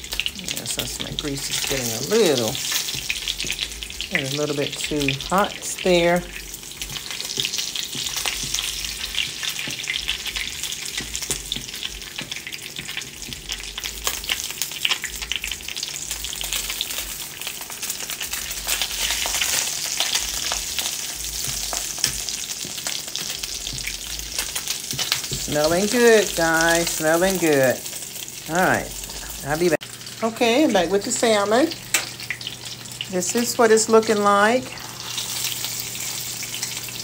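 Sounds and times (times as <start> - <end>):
fish sizzling in a frying pan: 0.0 - 37.0.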